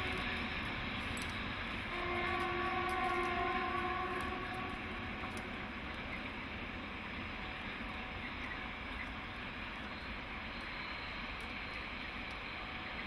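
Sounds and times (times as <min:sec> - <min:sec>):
distant diesel train rumbling: 0:00.0 - 0:13.0.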